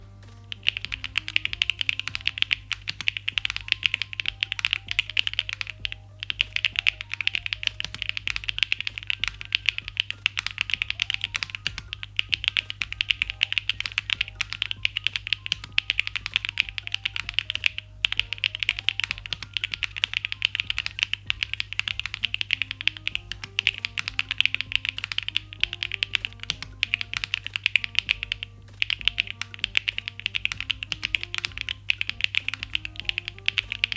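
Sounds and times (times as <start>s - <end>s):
soft background music: 0.0s - 33.9s
mechanical keyboard typing: 0.4s - 33.9s.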